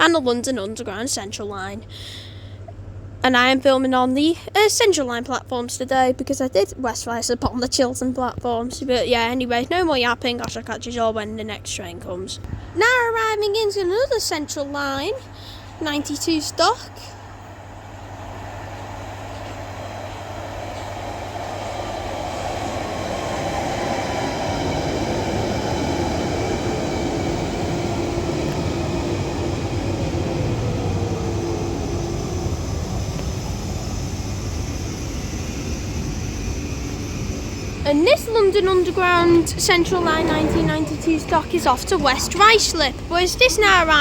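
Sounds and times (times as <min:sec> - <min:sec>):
train rumble: 0:00.0 - 0:44.0
underground train whine: 0:00.0 - 0:44.0.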